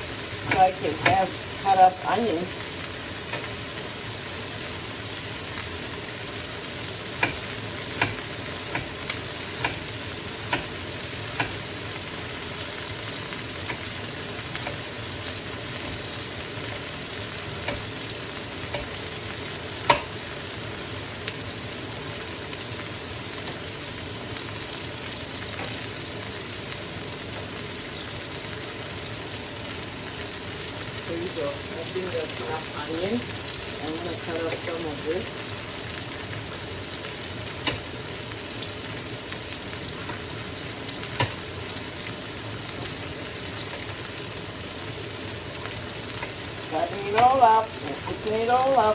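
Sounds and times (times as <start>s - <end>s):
chicken sizzling in hot oil: 0.0s - 48.9s.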